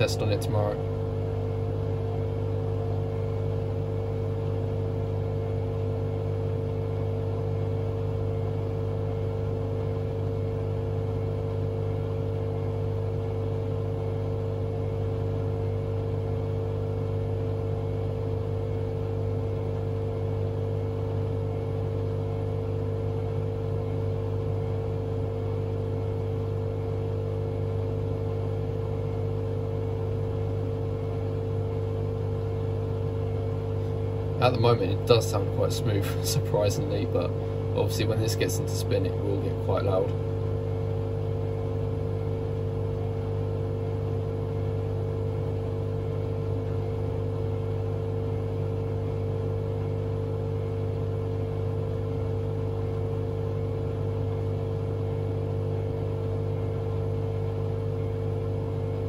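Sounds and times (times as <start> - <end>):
washing machine drum humming: 0.0 - 59.0.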